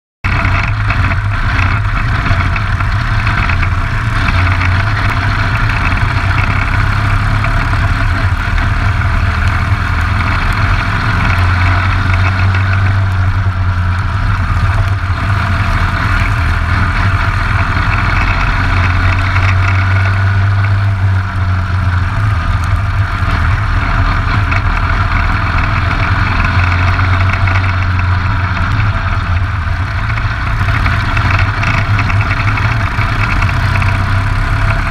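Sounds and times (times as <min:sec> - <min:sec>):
kart engine racing: 0:00.2 - 0:34.9.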